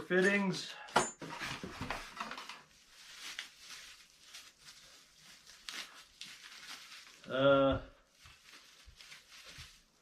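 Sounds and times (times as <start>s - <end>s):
plastic packaging crinkling: 1.8s - 10.0s.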